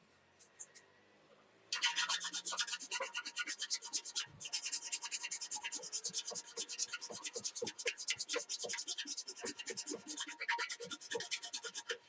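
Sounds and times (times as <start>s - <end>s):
hand sanding metal: 1.8s - 12.0s.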